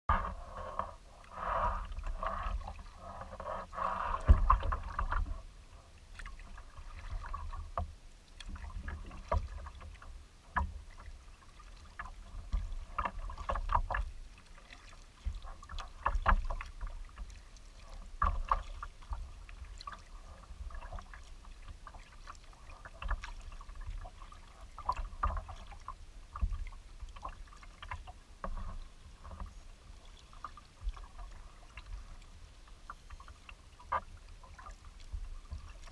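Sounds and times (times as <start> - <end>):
paddle strokes splashing: 0.1 - 35.9
water lapping at hull: 0.1 - 35.9.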